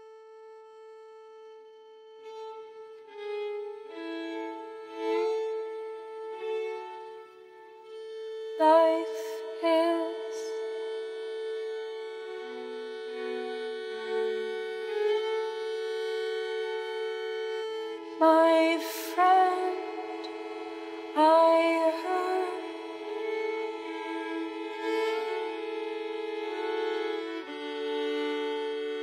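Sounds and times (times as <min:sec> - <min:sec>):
bowed violin music: 0:00.0 - 0:29.0.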